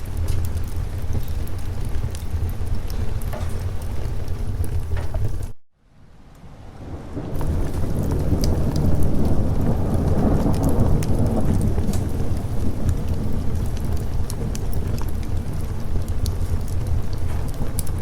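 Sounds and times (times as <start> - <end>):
thunder rumbling: 0.0 - 5.6, 6.4 - 18.0
ticks of raindrops: 0.0 - 5.6, 6.2 - 18.0
steady rain: 0.0 - 18.0.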